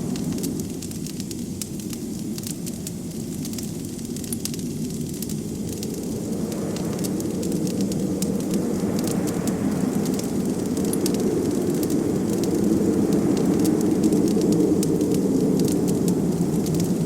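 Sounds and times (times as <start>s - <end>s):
low rush of wind: 0.0s - 17.0s
wood fire crackling: 0.0s - 17.0s.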